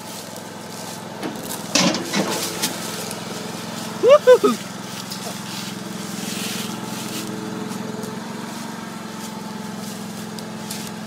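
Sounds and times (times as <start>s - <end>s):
log splitter engine running: 0.0s - 11.0s.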